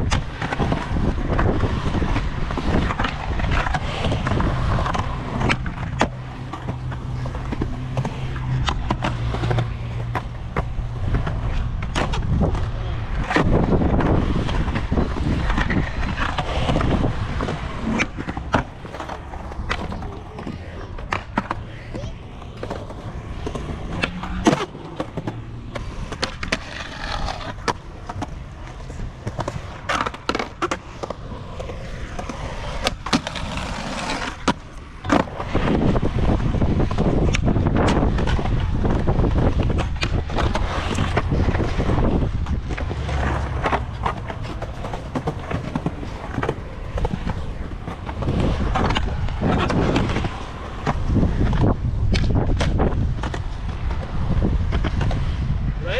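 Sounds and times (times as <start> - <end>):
skateboard popping and landing: 0.0 - 55.5
skateboard wheels rolling: 0.0 - 55.9.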